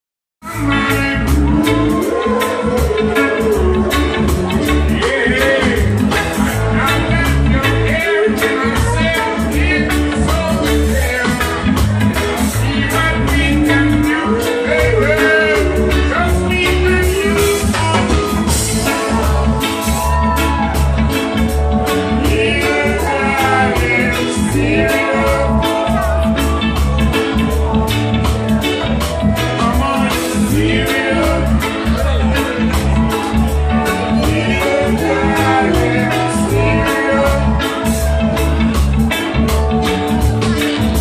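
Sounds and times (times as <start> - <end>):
man singing into microphone: 0.4 - 20.6, 22.0 - 26.5, 29.3 - 38.1
live rock band playing: 0.4 - 41.0.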